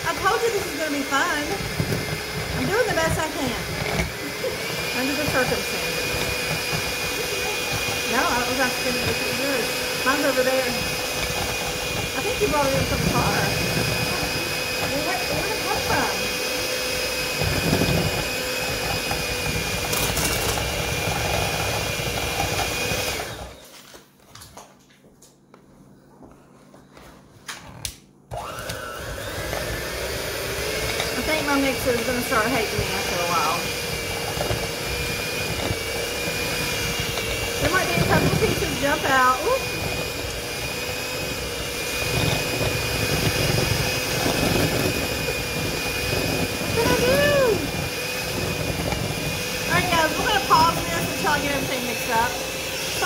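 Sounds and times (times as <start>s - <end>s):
electric mixer running: 0.0s - 23.8s, 27.6s - 53.0s.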